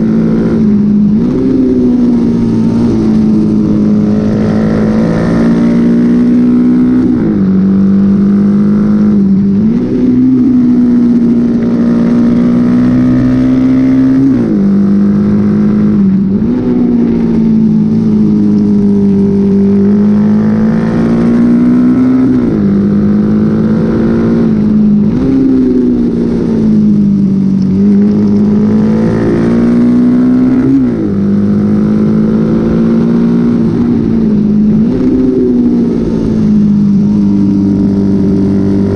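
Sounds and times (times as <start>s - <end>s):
motorcycle engine racing: 0.0s - 38.9s.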